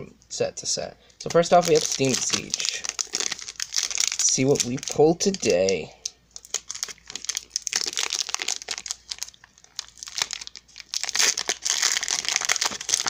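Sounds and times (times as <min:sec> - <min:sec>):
foil wrapper crinkling and tearing: 0:01.3 - 0:05.8, 0:06.4 - 0:13.0.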